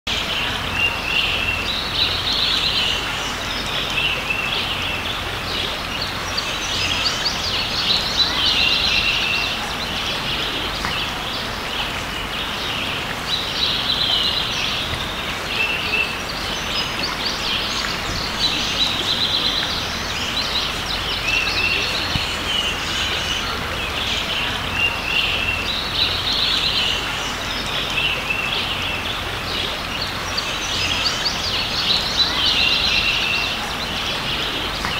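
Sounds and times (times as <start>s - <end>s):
birds singing and chirping: 0.1s - 34.9s
creek rushing: 0.1s - 34.9s.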